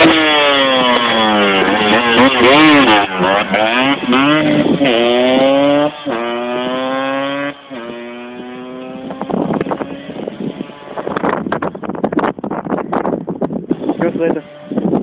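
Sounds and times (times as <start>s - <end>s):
rushing wind noise: 0.0s - 15.0s
two-stroke motorcycle accelerating: 0.0s - 15.0s.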